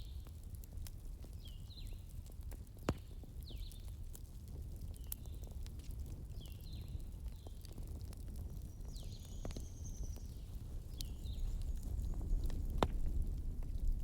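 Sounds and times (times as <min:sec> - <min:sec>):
fire crackles and pops: 0:00.0 - 0:14.0
wood fire rumbling: 0:00.0 - 0:14.0.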